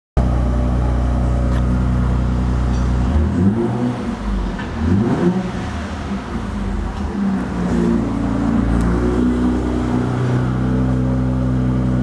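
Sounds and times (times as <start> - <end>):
car engine idling and revving: 0.2 - 12.0.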